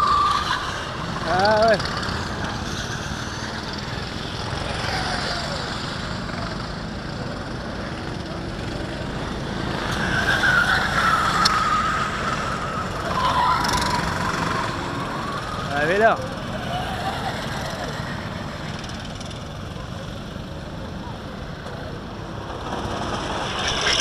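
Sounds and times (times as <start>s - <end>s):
go-kart engines running: 0.0s - 24.0s.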